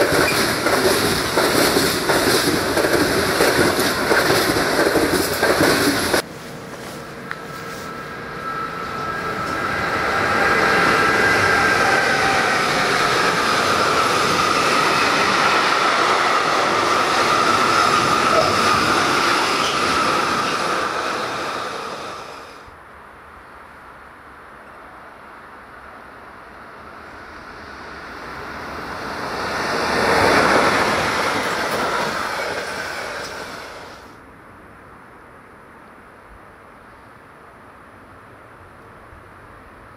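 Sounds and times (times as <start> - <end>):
freight train rumbling past: 0.0 - 34.6.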